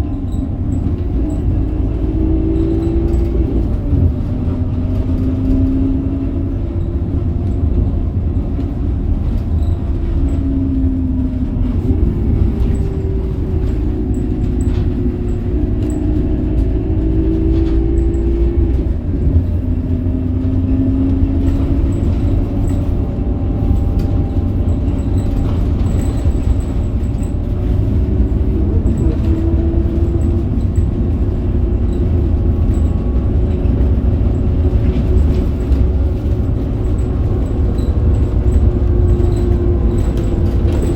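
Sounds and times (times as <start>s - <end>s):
bus diesel engine rumbling: 0.0s - 40.9s
engine and gearbox whine: 0.0s - 40.9s.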